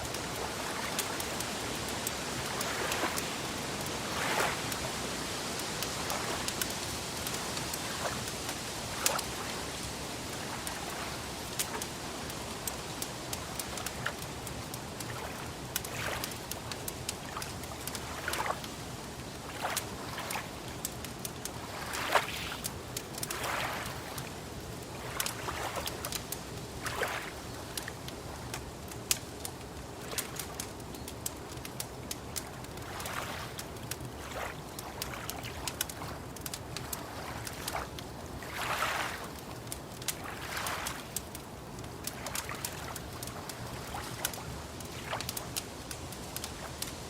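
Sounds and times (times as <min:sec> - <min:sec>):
lake water lapping: 0:00.0 - 0:46.9
wood fire crackling: 0:00.0 - 0:47.0.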